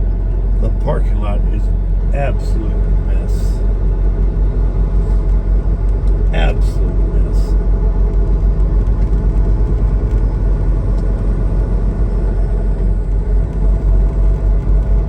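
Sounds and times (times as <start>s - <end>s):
road noise: 0.0s - 15.0s
truck diesel engine rumble: 0.0s - 15.0s.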